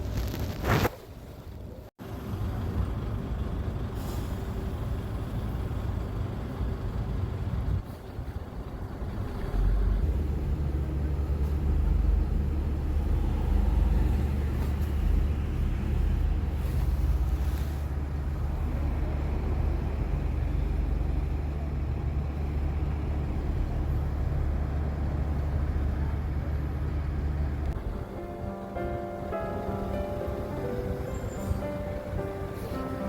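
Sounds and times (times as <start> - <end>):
low traffic rumble: 0.0 - 33.0.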